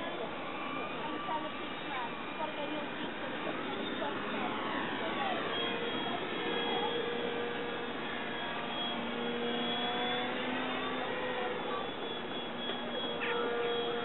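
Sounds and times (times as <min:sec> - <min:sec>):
model plane engine: 0:00.0 - 0:14.0.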